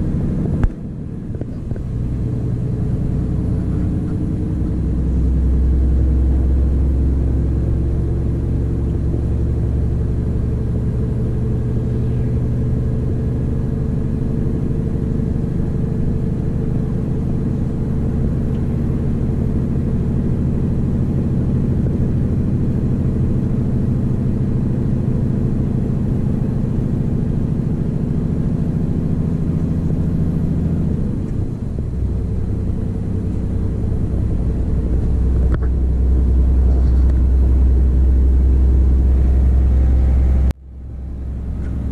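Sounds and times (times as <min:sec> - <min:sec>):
truck diesel engine drone: 0:00.0 - 0:41.9.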